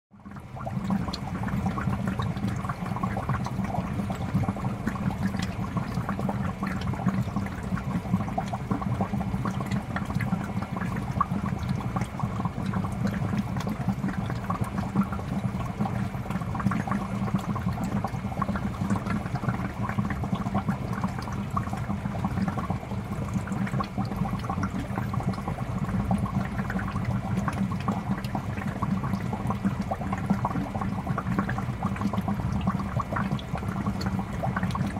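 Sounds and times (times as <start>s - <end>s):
aquarium water bubbling: 0.1s - 34.9s
low steady hum: 0.2s - 34.9s.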